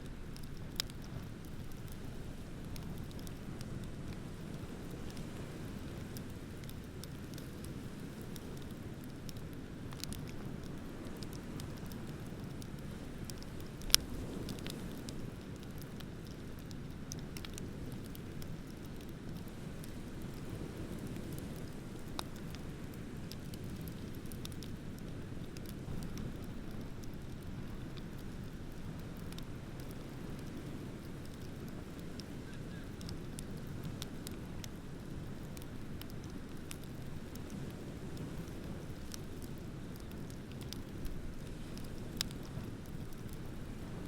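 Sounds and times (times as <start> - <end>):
bonfire crackling and popping: 0.0 - 44.0.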